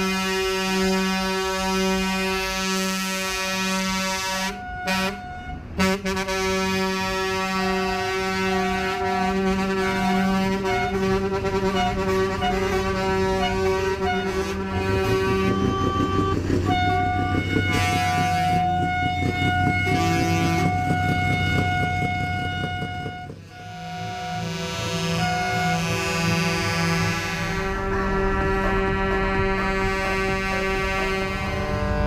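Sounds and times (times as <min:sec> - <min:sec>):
truck air horns blowing chords: 0:00.0 - 0:32.0
diesel engine running: 0:00.1 - 0:32.0.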